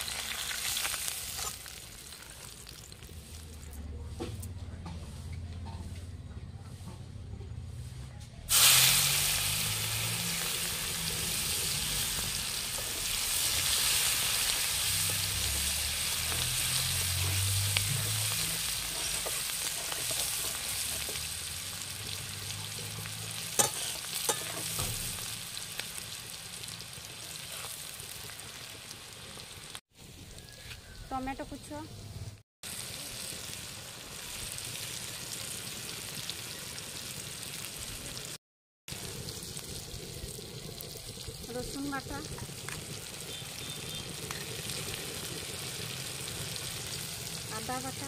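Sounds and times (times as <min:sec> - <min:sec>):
onion sizzling in hot oil: 0:00.0 - 0:03.8, 0:08.5 - 0:48.0.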